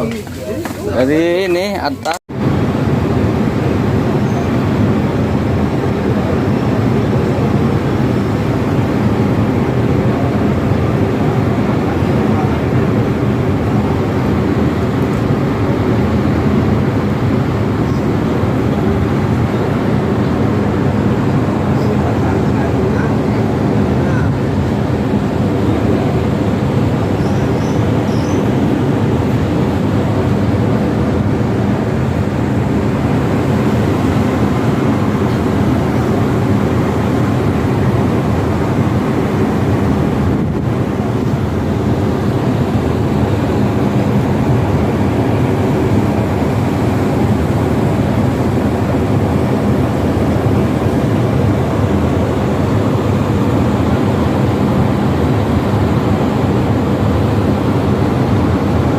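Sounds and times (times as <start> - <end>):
ship engines droning: 0.0 - 58.9.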